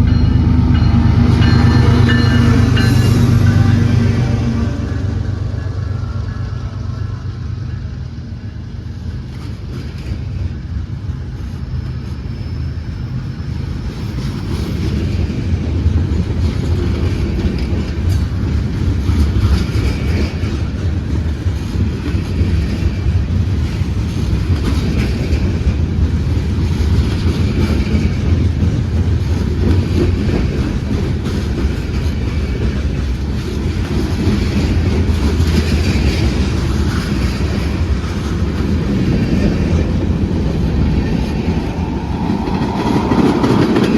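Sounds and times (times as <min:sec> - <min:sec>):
freight train rolling past: 0:00.0 - 0:43.9.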